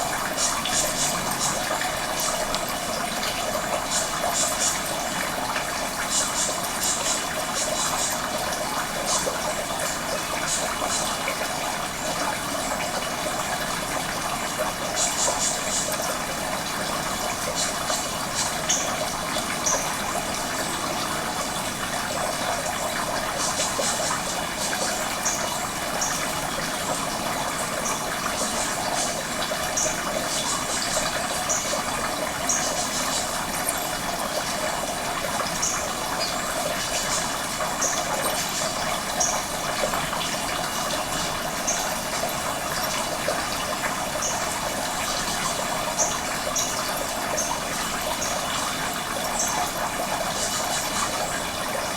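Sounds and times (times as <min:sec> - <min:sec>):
running water: 0:00.0 - 0:51.9.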